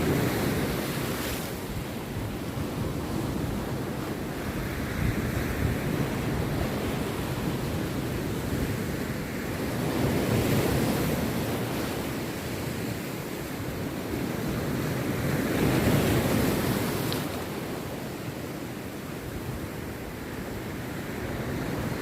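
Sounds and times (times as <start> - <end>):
sea surf breaking on beach: 0.0 - 22.0
wind on microphone: 0.0 - 22.0.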